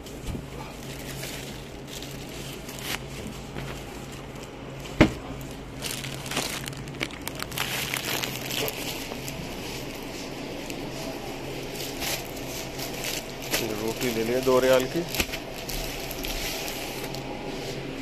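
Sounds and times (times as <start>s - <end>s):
plastic bag crinkling: 0.6s - 17.3s.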